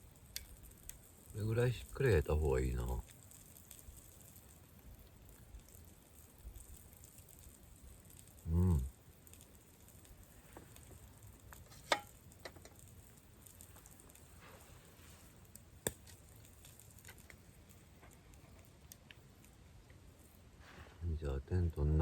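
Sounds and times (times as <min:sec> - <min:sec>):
campfire crackling: 0:00.0 - 0:22.0
fire popping: 0:00.0 - 0:22.0.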